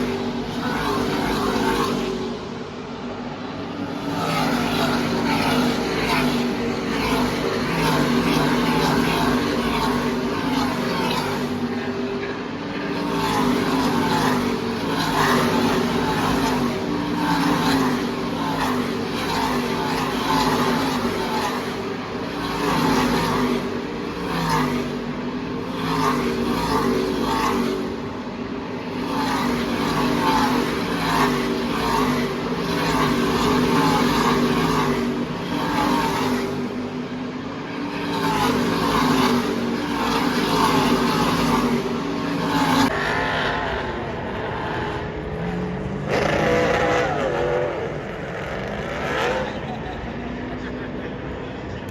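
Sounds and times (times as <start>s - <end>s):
racing trucks at full throttle: 0.0s - 51.9s.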